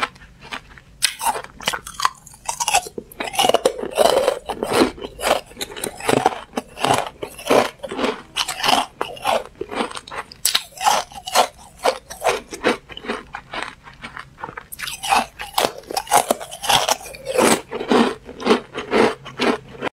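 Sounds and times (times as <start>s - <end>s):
ice crunching being chewed: 0.0s - 19.9s.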